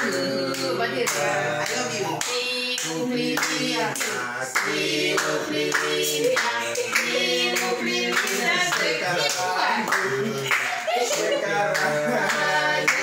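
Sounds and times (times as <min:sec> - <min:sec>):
group singing a birthday song: 0:00.0 - 0:13.0
people clapping in time: 0:00.0 - 0:13.0.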